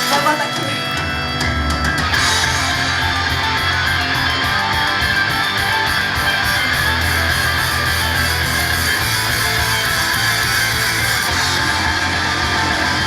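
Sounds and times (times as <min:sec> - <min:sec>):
loud rock band playing: 0:00.0 - 0:13.0.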